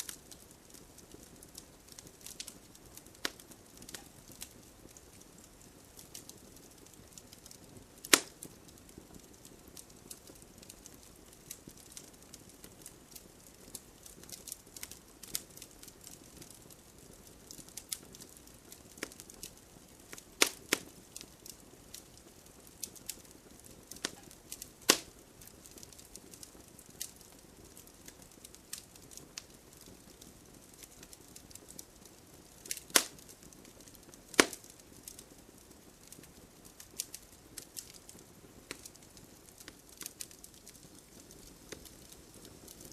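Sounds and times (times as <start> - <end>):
campfire crackling: 0.0 - 42.9
sharp pops of burning wood: 0.0 - 42.9.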